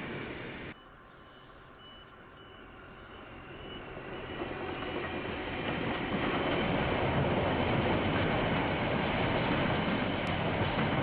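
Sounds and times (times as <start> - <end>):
diesel freight train approaching: 0.0 - 11.0.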